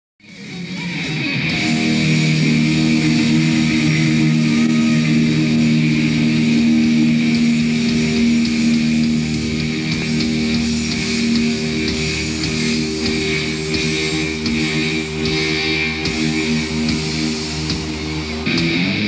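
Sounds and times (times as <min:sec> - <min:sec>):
bass guitar: 0:00.2 - 0:19.0
electric guitar chords: 0:00.2 - 0:19.0.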